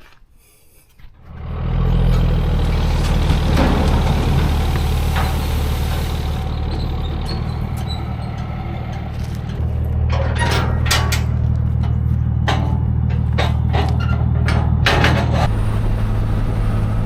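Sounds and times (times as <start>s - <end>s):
truck engine idling: 1.2s - 17.0s.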